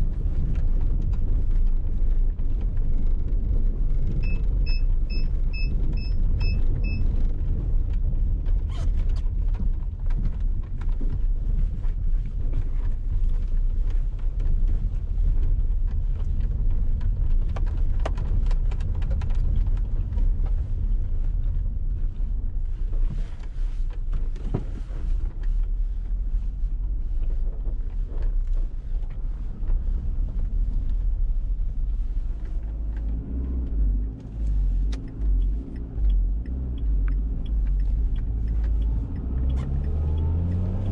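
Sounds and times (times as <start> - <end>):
car running gear rumble: 0.0 - 40.9.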